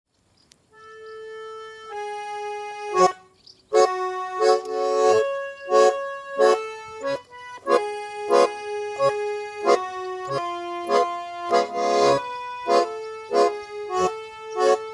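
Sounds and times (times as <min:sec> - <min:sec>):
button accordion playing chords: 0:00.7 - 0:14.9.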